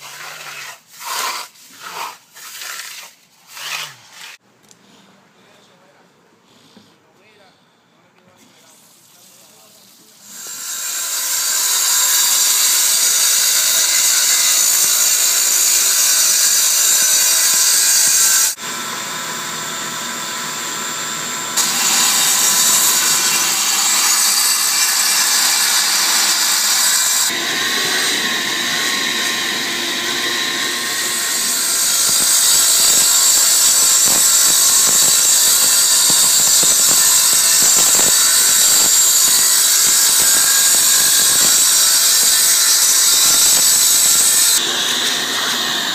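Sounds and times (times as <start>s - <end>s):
power saw cutting concrete: 0.0s - 4.4s, 10.3s - 45.9s.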